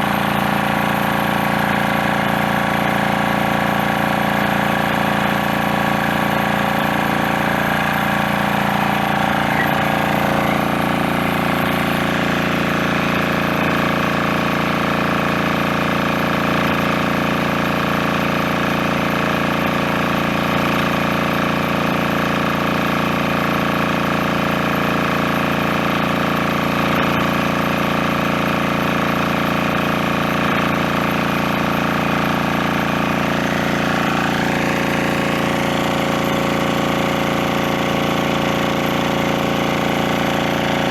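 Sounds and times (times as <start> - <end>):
water pump engine running: 0.0 - 40.9.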